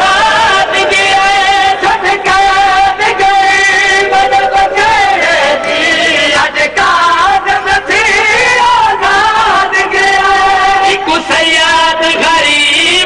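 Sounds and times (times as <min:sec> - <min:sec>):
person chanting a lament: 0:00.0 - 0:13.0.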